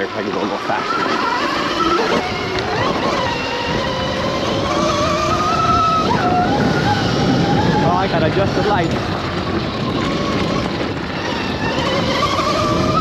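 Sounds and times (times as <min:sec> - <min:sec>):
electric motor whine: 0:00.0 - 0:13.0
wind rush and tyre noise: 0:00.0 - 0:13.0.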